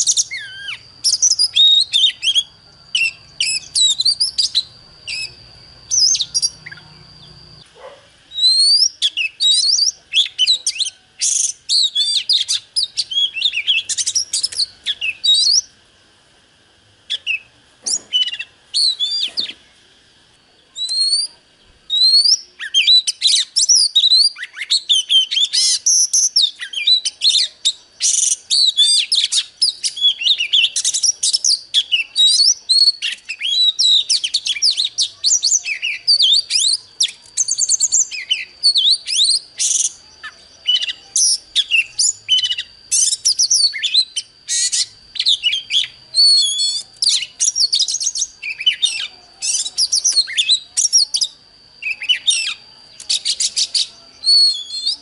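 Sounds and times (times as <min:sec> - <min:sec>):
bird singing whistled phrases: 0:00.0 - 0:07.7, 0:08.3 - 0:15.8, 0:17.1 - 0:19.8, 0:20.6 - 0:55.0.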